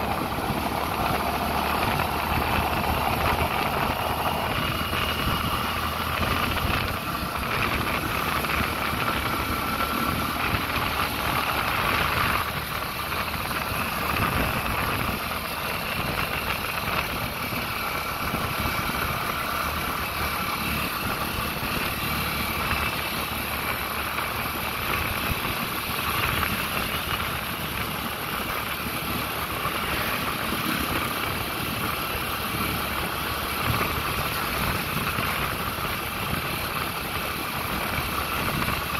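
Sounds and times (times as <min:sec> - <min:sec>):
road noise: 0:00.0 - 0:38.9
vehicle engine: 0:00.0 - 0:38.9.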